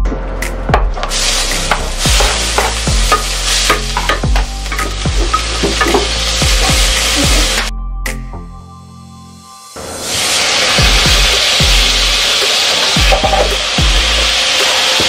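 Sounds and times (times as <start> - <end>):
onion and garlic sizzling in oil: 1.0 - 7.7, 9.3 - 15.0.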